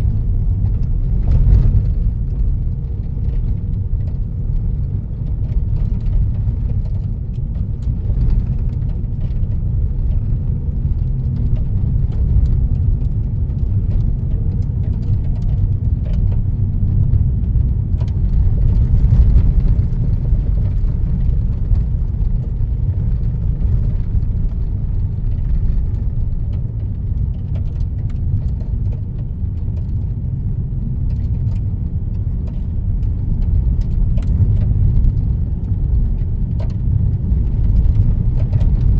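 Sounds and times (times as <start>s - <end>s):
car cabin rumble: 0.0s - 38.9s.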